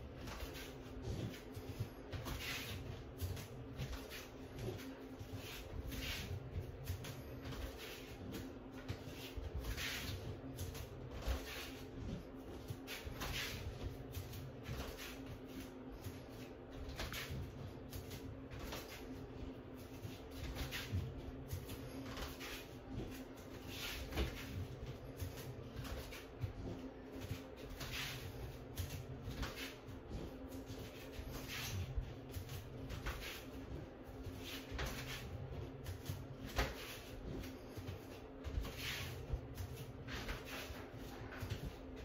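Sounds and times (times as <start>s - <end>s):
clothing rustling: 0.0s - 42.0s
footsteps swishing and shuffling: 0.0s - 42.0s.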